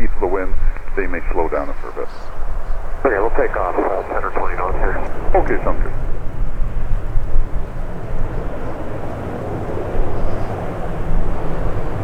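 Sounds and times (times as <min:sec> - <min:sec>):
turboprop airliner passing: 0:00.0 - 0:12.0
wind buffeting microphone: 0:00.0 - 0:12.0.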